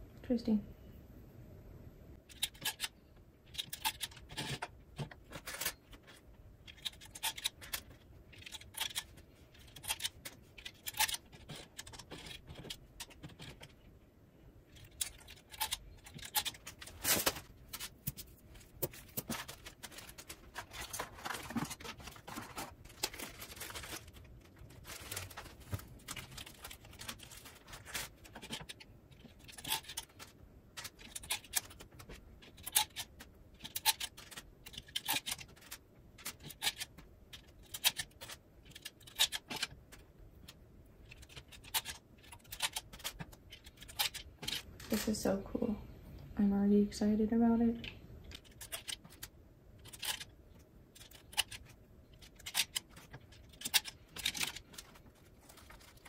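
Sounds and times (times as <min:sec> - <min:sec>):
metal needles clicking and scraping: 0:02.2 - 0:14.0, 0:14.6 - 0:45.3, 0:47.6 - 0:56.0.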